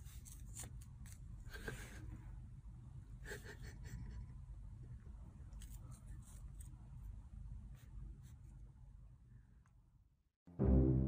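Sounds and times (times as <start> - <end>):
low room hum: 0.0 - 10.3.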